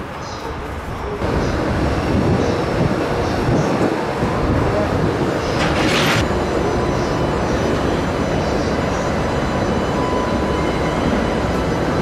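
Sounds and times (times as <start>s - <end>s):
freight train rumble: 0.0s - 12.0s.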